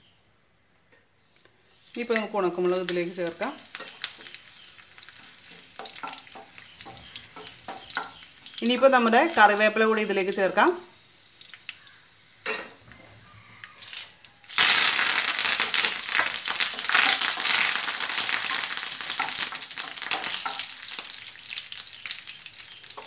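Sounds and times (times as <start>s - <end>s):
leaves sizzling in hot oil: 1.6s - 23.0s.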